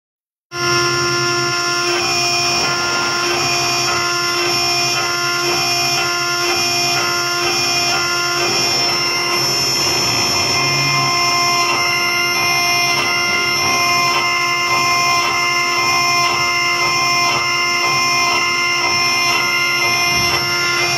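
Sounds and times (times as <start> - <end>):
router spindle engraving metal: 0.5 - 20.9.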